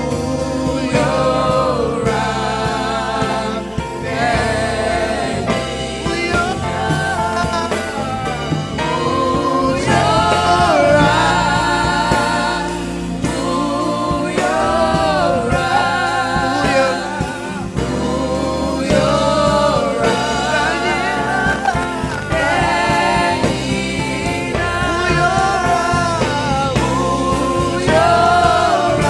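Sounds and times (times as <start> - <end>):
backing choir: 0.0 - 29.0
drums: 0.0 - 29.0
keyboard: 0.0 - 29.0
men singing lead vocals: 0.0 - 29.0.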